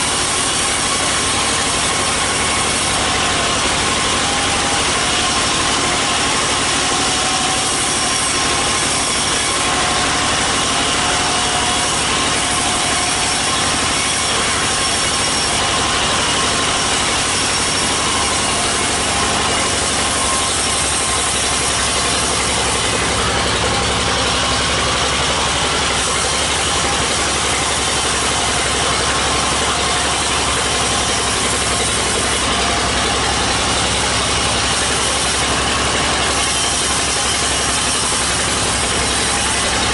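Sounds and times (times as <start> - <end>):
bandsaw cutting wood: 0.0 - 39.9
stationary engine running: 0.0 - 39.9.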